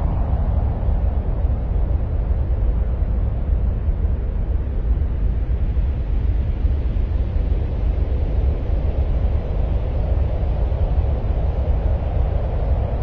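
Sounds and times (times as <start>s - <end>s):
low rumbling ambient noise: 0.0s - 13.0s.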